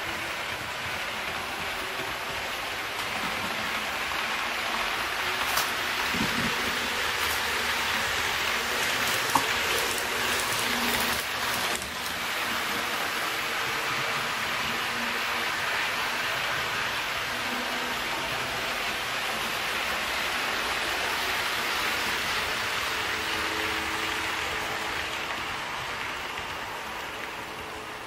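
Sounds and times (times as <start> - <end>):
model train wheels hissing on rail: 0.0 - 28.0.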